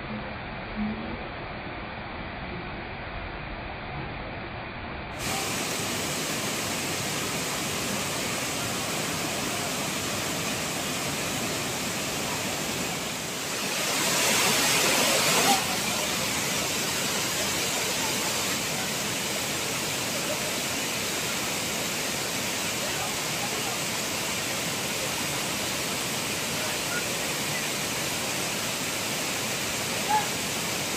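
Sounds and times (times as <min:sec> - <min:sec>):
water rushing over rocks: 0:05.2 - 0:30.9.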